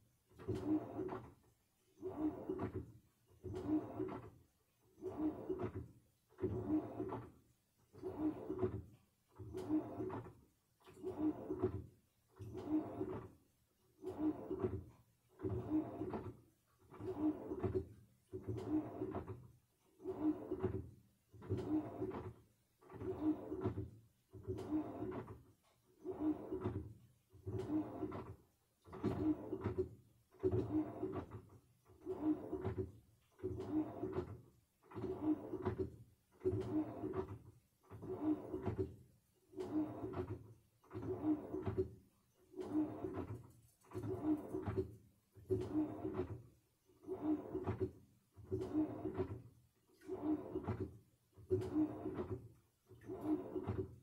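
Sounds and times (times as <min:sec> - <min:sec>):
washing machine motor hum and swish: 0:00.0 - 0:54.0.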